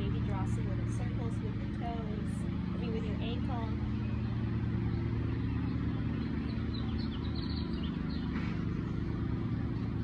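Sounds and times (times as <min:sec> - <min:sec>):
low mechanical drone: 0:00.0 - 0:10.0.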